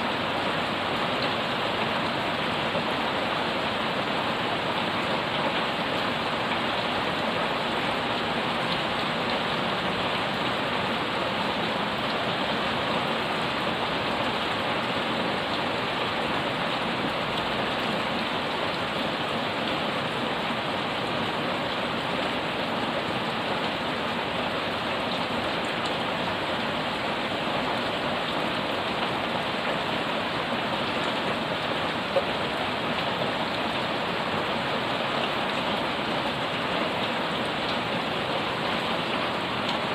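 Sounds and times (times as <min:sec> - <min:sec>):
heavy rain on pavement and leaves: 0:00.0 - 0:39.9.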